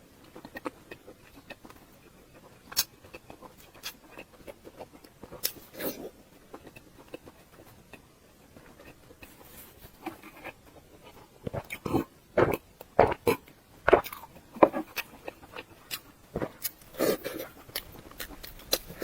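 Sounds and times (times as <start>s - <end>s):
chewing: 0.2s - 19.0s.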